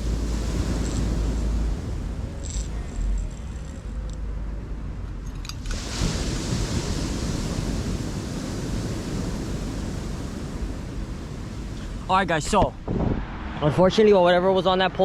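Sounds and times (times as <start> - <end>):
ocean surf rushing: 0.0 - 4.1, 5.6 - 15.0
wind rumbling on microphone: 0.0 - 15.0.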